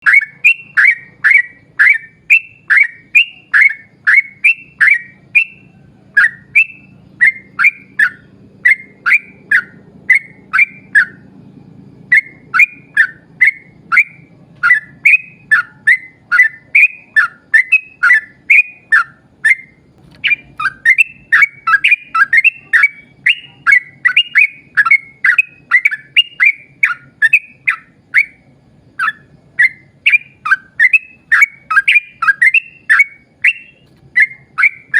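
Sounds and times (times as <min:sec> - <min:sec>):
bulbul bubbly chirping song: 0:00.0 - 0:34.9.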